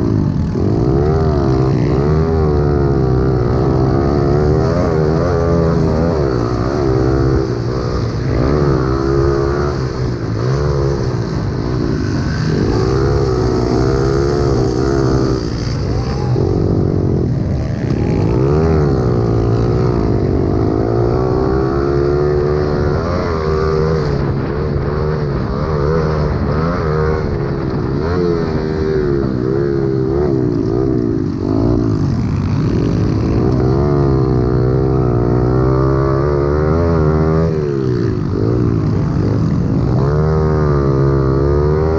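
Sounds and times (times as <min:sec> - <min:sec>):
pit bike engines racing: 0:00.0 - 0:41.9.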